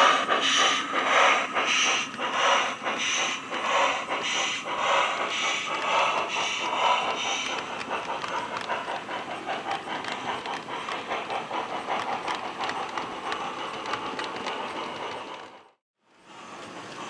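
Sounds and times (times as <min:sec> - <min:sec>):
model train wheels clicking: 0:00.0 - 0:17.0.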